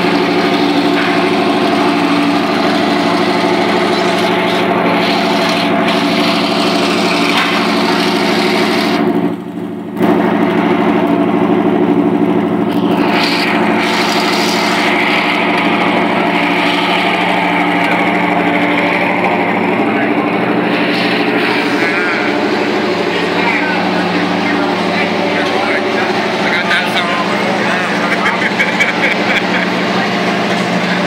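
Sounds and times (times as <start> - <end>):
steady engine drone: 0.0 - 31.0.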